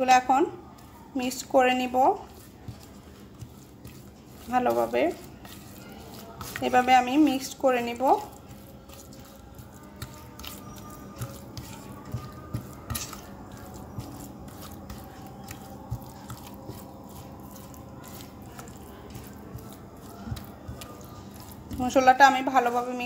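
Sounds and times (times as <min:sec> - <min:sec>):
spatula stirring wet marinade: 0:00.0 - 0:23.0
spatula tapping steel bowl: 0:01.2 - 0:23.0.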